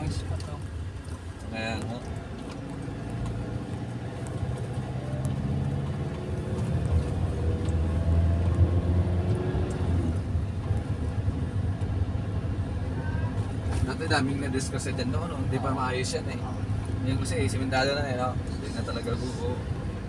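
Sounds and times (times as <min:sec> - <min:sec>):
car engine from inside cabin: 0:00.0 - 0:20.0
tyre and road noise: 0:00.0 - 0:20.0.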